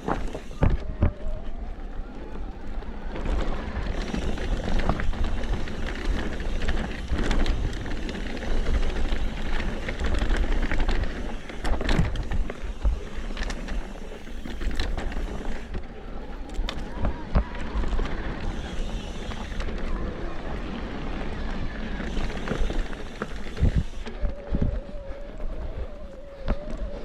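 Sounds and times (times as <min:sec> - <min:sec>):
bike tyre noise on dirt: 0:00.0 - 0:27.0
wind buffeting microphone: 0:00.0 - 0:27.0.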